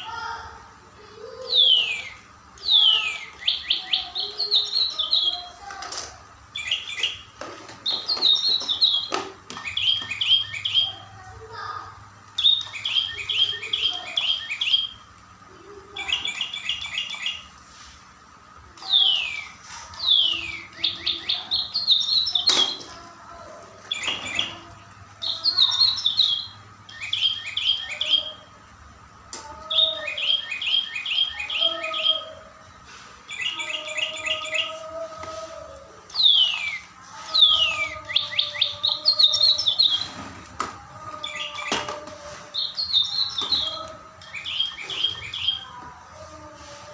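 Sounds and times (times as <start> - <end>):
songbird singing trills and whistles: 1.3 - 5.6, 6.5 - 11.2, 12.3 - 15.1, 15.8 - 17.5, 18.8 - 23.0, 23.8 - 28.5, 29.6 - 40.3, 41.0 - 46.0.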